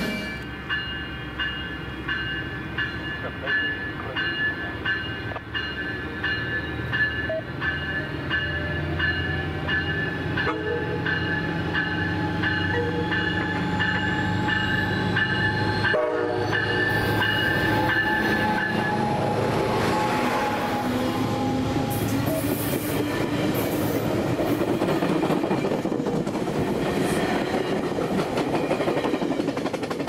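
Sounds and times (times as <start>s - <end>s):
train whine rising in pitch: 0.0s - 2.8s, 5.0s - 29.6s
railroad crossing bell ringing: 0.0s - 24.8s
train rumbling past: 0.0s - 30.0s.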